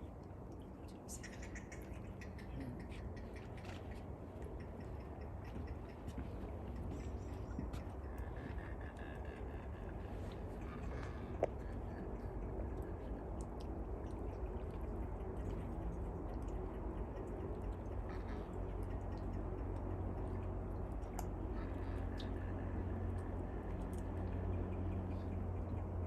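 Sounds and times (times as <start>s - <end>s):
steady low rumble: 0.0s - 26.0s
faint clicks: 0.2s - 22.5s.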